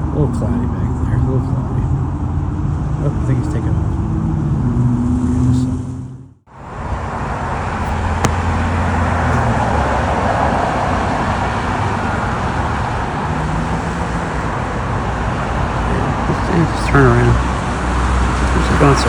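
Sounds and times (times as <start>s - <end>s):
vehicle engine roar: 0.0s - 19.0s.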